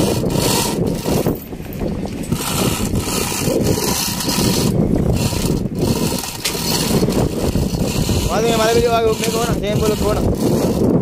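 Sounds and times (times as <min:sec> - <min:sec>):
boat engine running: 0:00.0 - 0:11.0
water along the hull: 0:00.0 - 0:11.0.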